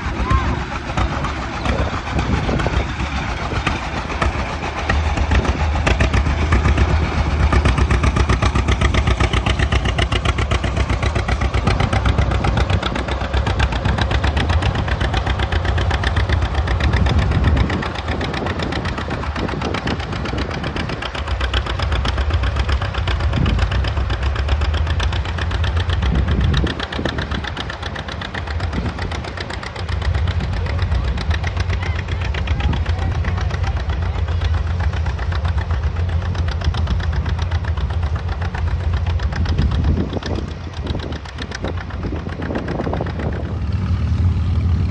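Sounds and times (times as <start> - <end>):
tractor engine running under load: 0.0 - 44.9.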